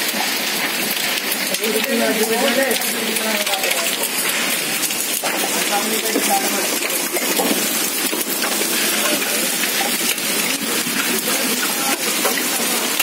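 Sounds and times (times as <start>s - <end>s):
hail ticking on hard surfaces: 0.0s - 13.0s
heavy rain hissing: 0.0s - 13.0s.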